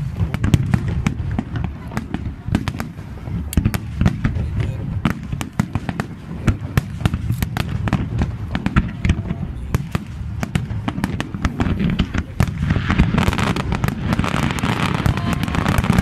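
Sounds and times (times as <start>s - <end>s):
deep rumble of fireworks launches: 0.0s - 16.0s
fireworks cracks and pops: 0.0s - 16.0s.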